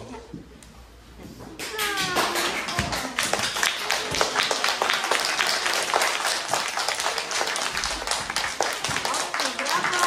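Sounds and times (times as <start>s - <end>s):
group applause: 1.6s - 10.0s.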